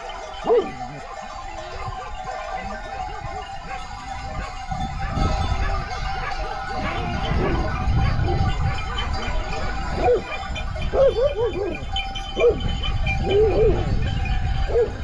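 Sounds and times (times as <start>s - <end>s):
goats and sheep bleating: 0.0s - 15.0s.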